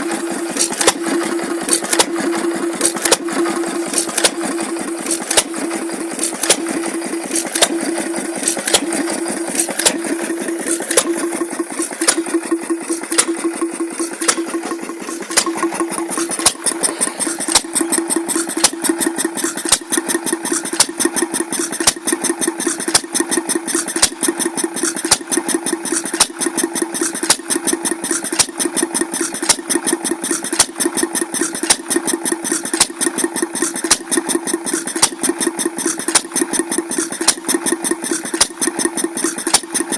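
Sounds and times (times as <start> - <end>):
small engine clicking over a hum: 0.3 - 39.9.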